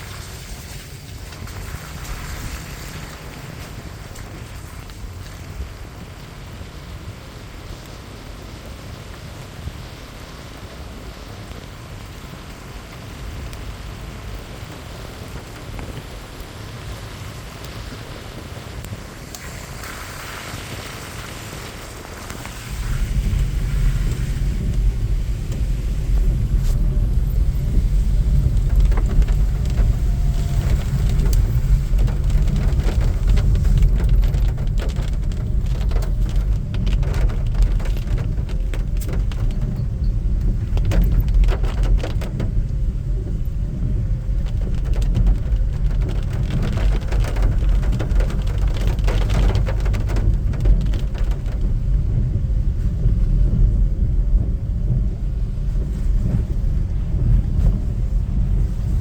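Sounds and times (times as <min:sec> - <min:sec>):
heavy rain with drop taps: 0:00.0 - 0:59.0.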